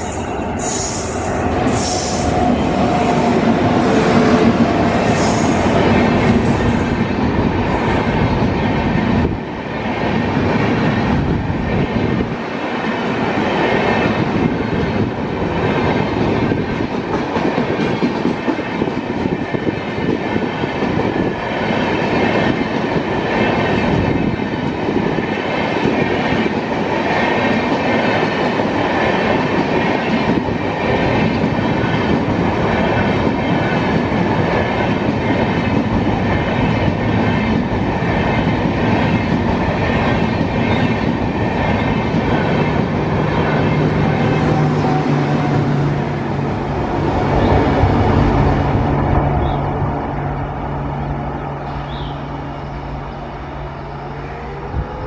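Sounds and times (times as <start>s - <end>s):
train wheels rushing on rails: 0.0s - 55.0s.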